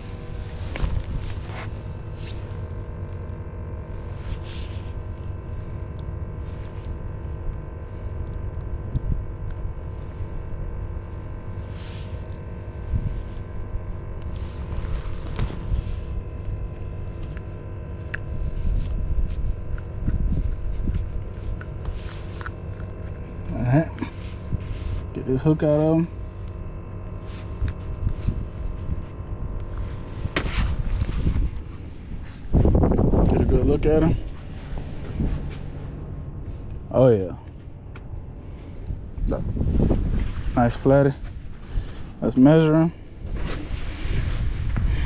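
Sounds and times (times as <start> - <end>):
low rumble: 0.0 - 45.0
motor hum: 0.0 - 45.0.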